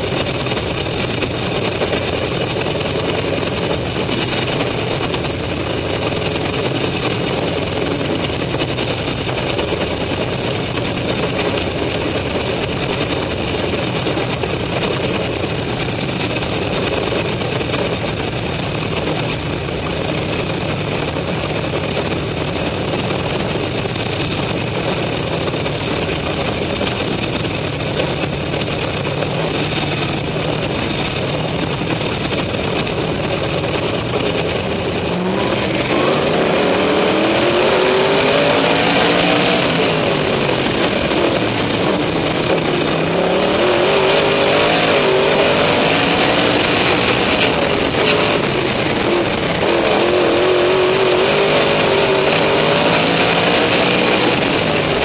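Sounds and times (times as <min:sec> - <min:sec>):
race car engines idling: 0:00.0 - 0:55.0.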